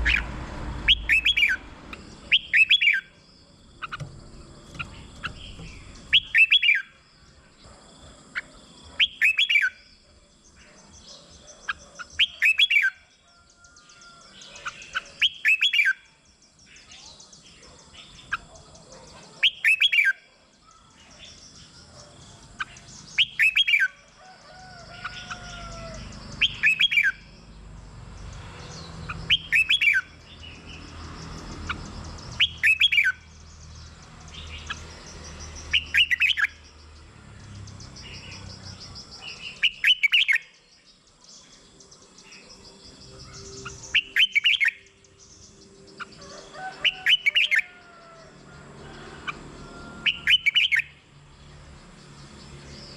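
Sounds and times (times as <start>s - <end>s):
bulbul singing loud phrases: 0.0s - 7.0s, 7.6s - 24.0s, 24.9s - 27.6s, 28.8s - 48.3s, 50.0s - 51.0s.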